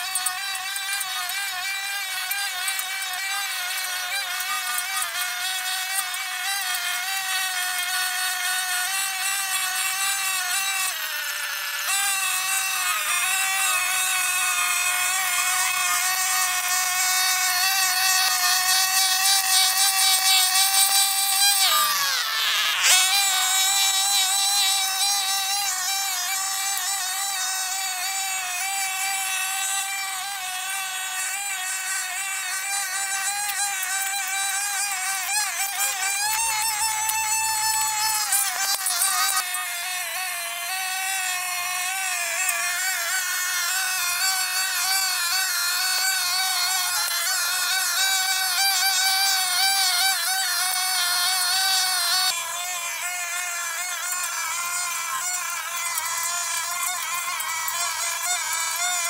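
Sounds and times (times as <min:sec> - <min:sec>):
brush cutter engine whining: 0:00.0 - 0:59.0.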